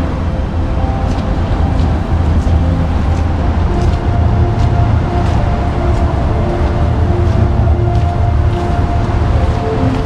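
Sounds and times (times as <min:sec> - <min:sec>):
low drone music: 0:00.0 - 0:10.0.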